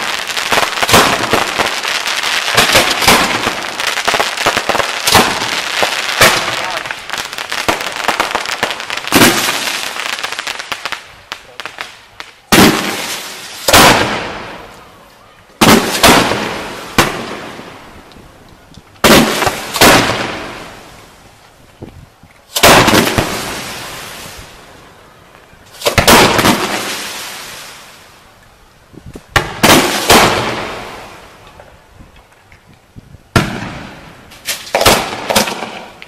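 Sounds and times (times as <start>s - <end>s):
fireworks bangs: 0.0s - 15.0s, 15.6s - 21.2s, 22.5s - 24.7s, 25.7s - 28.0s, 29.0s - 31.8s, 33.3s - 36.0s.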